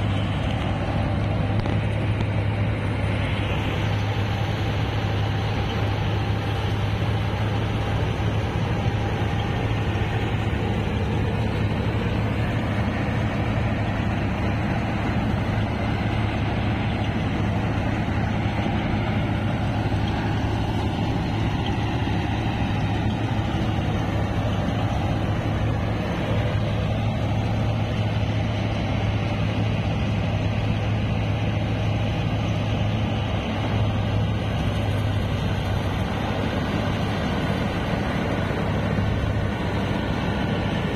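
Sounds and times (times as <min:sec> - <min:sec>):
harvesting machinery: 0:00.0 - 0:40.9
tractor diesel engine humming: 0:00.0 - 0:40.9.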